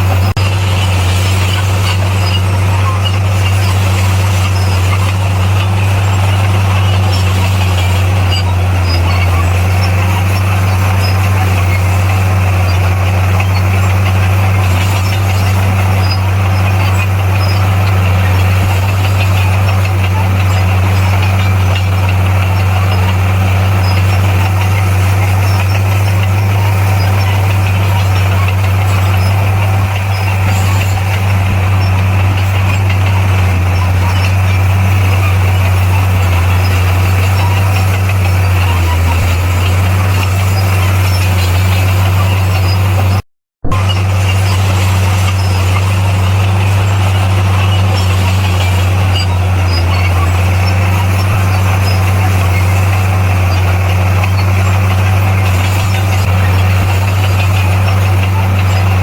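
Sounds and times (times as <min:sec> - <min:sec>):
bulldozer diesel engine drone: 0:00.0 - 0:59.0.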